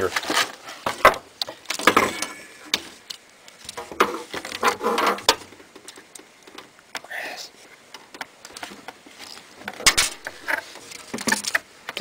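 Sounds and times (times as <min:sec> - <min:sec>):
wires rustling: 0:00.0 - 0:12.0.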